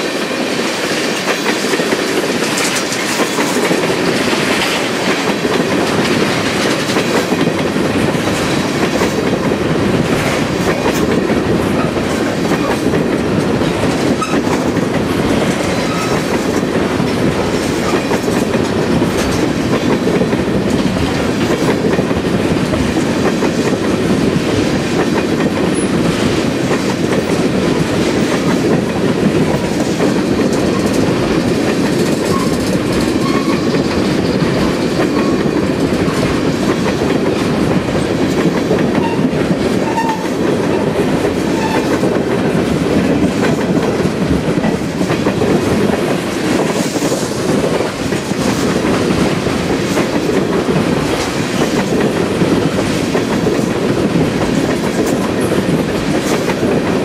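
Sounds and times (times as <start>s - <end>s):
clickety-clack of rail joints: 0.0s - 57.0s
train wheels rumbling on rail: 0.0s - 57.0s.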